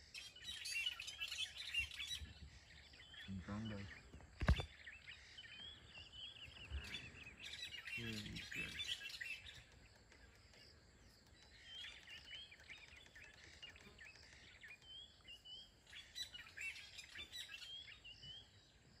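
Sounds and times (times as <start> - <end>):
birds chirping and whistling: 0.0 - 19.0.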